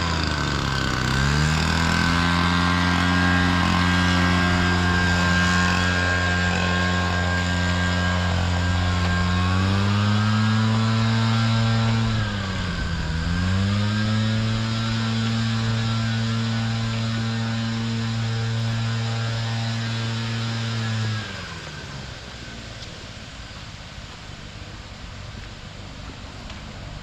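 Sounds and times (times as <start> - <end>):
engine running with low hum: 0.0 - 27.0.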